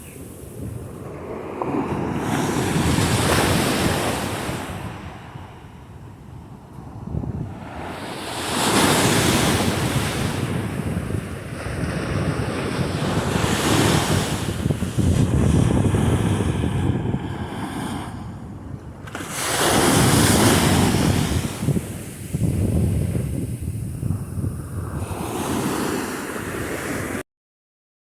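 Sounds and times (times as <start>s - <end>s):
ocean surf breaking: 0.0s - 5.7s, 6.8s - 27.2s
wind buffeting microphone: 0.0s - 27.2s.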